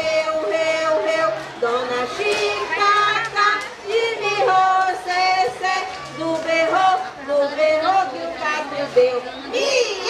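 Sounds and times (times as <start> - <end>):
person singing children's song: 0.0 - 10.0.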